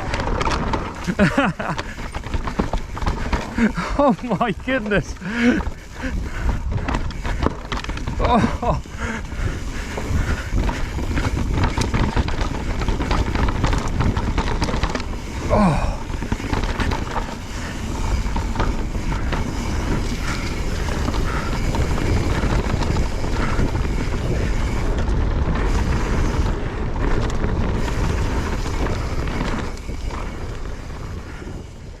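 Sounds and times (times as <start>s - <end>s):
bike knocks and rattles: 0.0s - 32.0s
tyres rumbling on dirt: 0.0s - 32.0s
wind buffeting microphone: 0.0s - 32.0s.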